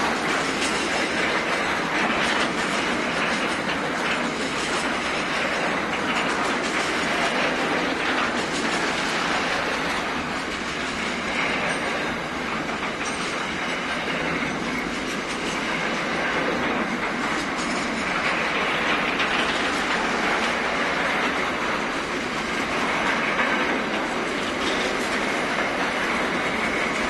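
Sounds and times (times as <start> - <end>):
steel wheels rolling on rail: 0.0 - 27.0
wheel clacks: 0.0 - 27.0.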